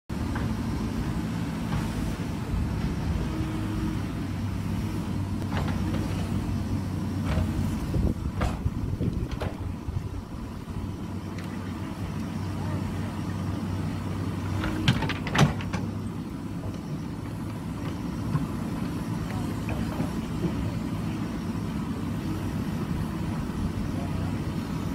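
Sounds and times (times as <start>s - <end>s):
diesel engine under load: 0.1s - 24.9s.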